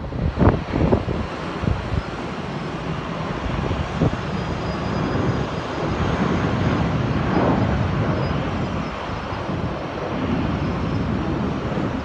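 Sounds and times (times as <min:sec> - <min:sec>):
jet engines rumbling: 0:00.0 - 0:12.0
wind buffeting microphone: 0:00.0 - 0:12.0.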